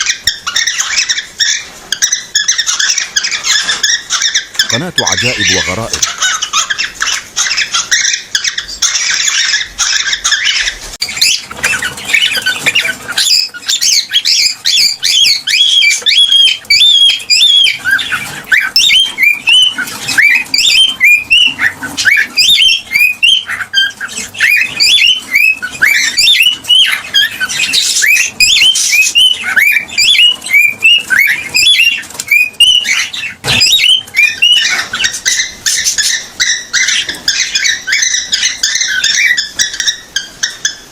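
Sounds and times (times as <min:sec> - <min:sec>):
cockatiel chirping and whistling: 0:00.0 - 0:40.9.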